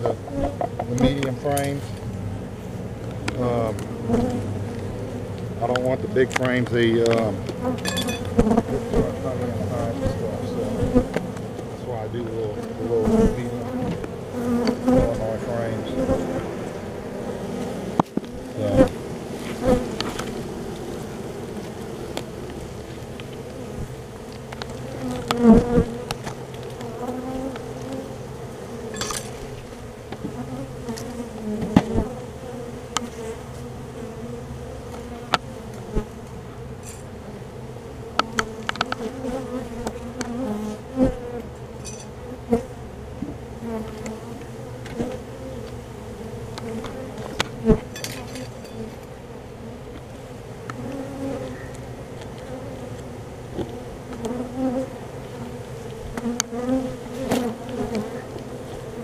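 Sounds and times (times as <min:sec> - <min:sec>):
honeybee colony buzzing: 0:00.0 - 0:59.0.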